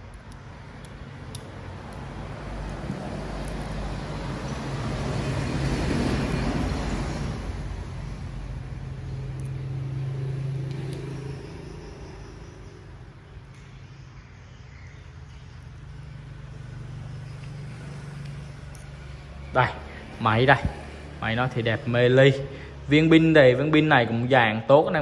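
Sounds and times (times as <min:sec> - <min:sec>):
vehicle passing: 0:00.6 - 0:24.5.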